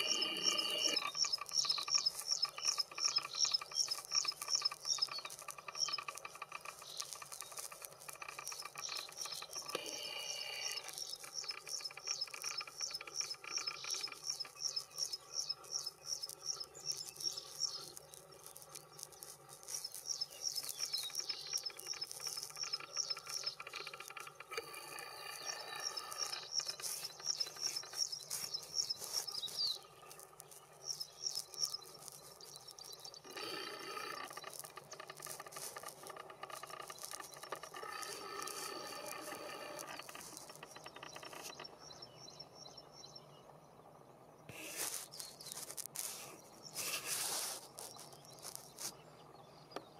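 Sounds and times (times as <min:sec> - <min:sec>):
other birds calling softly: 0:00.0 - 0:49.9.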